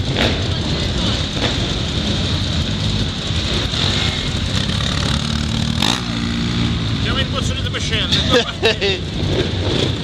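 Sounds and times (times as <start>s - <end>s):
quad bike engines running: 0.0s - 10.0s.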